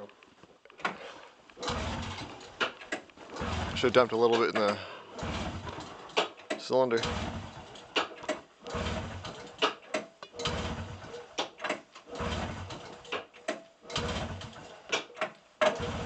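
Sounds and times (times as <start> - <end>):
engine cranking over: 0.8 - 16.0.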